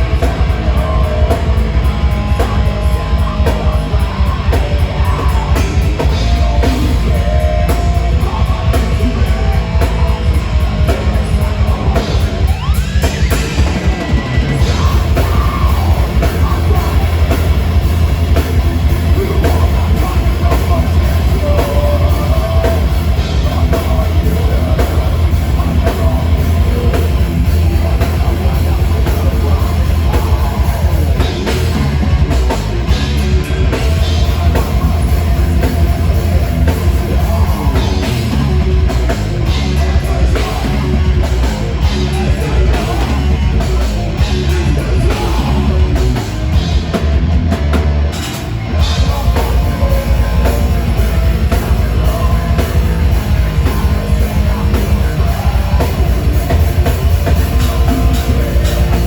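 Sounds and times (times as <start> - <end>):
heavy metal band playing live: 0.0 - 59.0.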